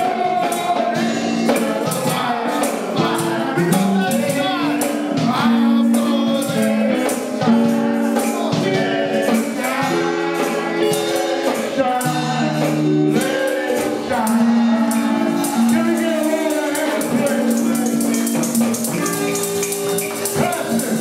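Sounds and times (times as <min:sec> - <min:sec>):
gospel singing voices: 0:00.0 - 0:21.0
tambourine beat: 0:00.0 - 0:21.0.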